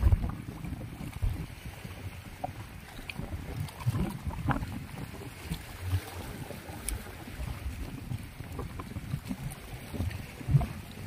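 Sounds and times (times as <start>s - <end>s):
water lapping: 0.0s - 11.0s
wind rumbling on microphone: 0.0s - 11.0s.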